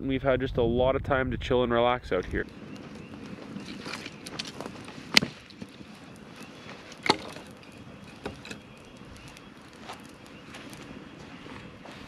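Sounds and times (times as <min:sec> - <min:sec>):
fire popping: 0:02.0 - 0:12.0
campfire crackling: 0:02.1 - 0:12.0.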